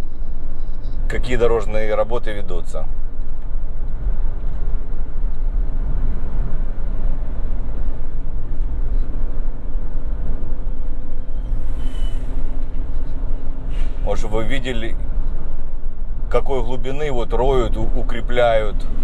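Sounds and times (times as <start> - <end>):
vehicle driving on road: 0.0 - 19.0.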